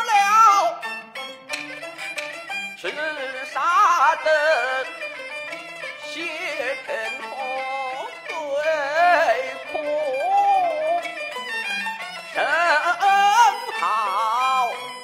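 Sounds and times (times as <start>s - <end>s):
high bowed fiddle melody: 0.0s - 15.0s
lower bowed string line: 0.4s - 15.0s.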